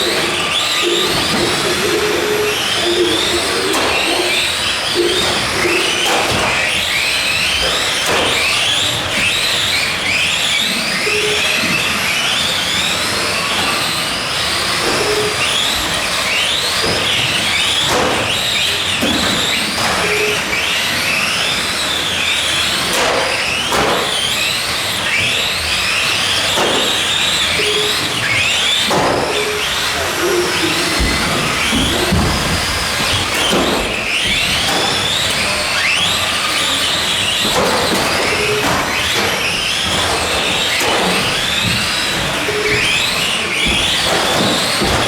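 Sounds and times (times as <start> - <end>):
rc cars motors whining: 0.0 - 45.0.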